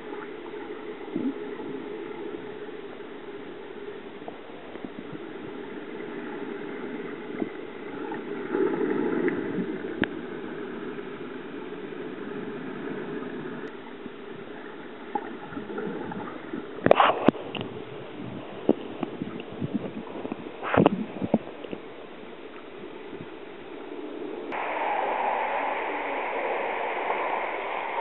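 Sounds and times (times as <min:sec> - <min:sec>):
muffled underwater churning: 0:00.0 - 0:28.0.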